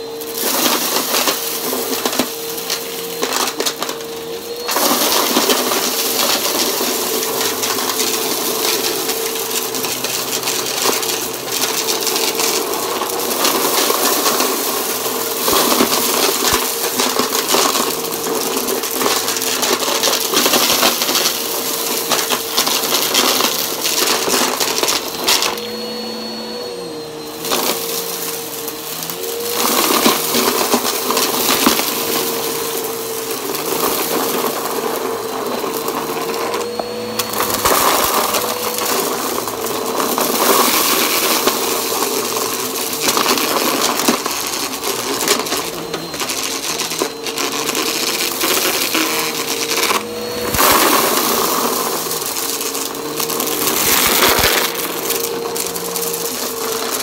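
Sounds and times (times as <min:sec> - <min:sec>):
debris rattling through vacuum: 0:00.0 - 0:57.0
vacuum cleaner motor whine: 0:00.0 - 0:57.0.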